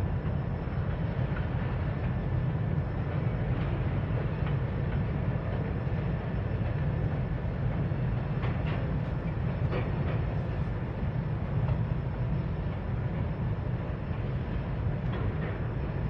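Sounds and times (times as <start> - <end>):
freight train rumbling over bridge: 0.0 - 16.0.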